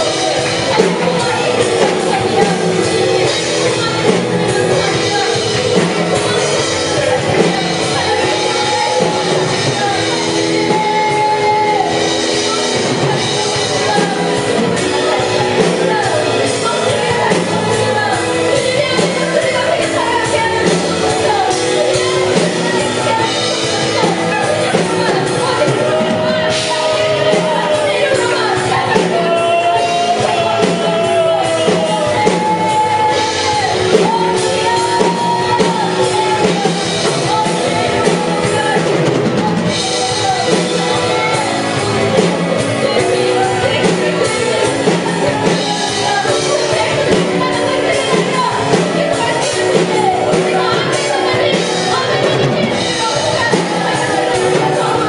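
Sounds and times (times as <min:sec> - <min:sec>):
live worship band playing: 0:00.0 - 0:55.0
person singing: 0:00.0 - 0:55.0.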